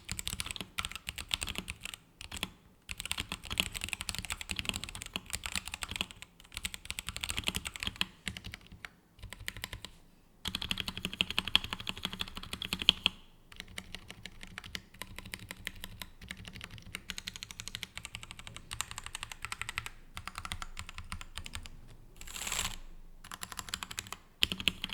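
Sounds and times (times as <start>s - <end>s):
mechanical keyboard typing: 0.0s - 9.9s, 10.5s - 24.9s.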